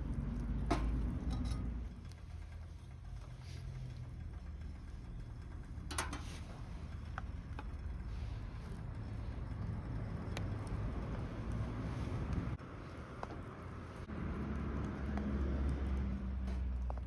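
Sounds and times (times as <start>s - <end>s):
wood fire rumbling: 0.0s - 17.0s.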